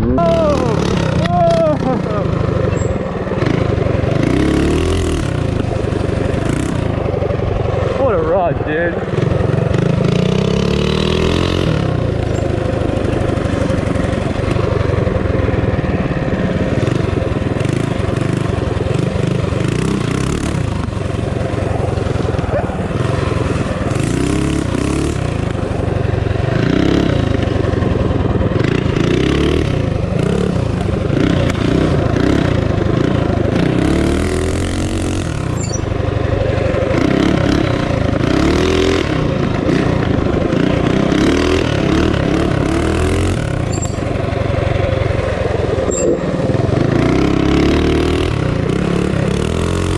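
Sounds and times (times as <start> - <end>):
small motorbike engine revving: 0.0 - 49.9.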